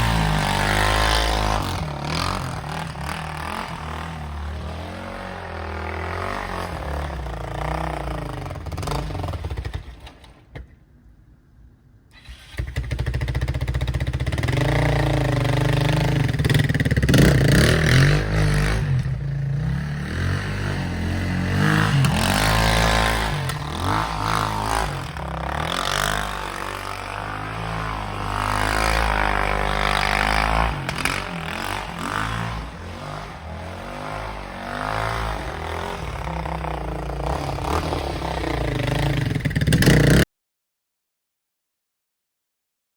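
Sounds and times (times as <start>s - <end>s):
engine revving: 0.0s - 10.1s, 12.2s - 40.2s.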